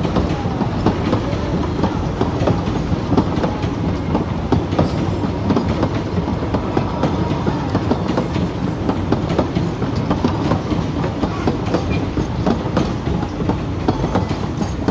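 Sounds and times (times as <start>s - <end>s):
train wheels rumbling on rails: 0.0s - 14.9s
wheels clacking over track joints: 0.0s - 14.9s.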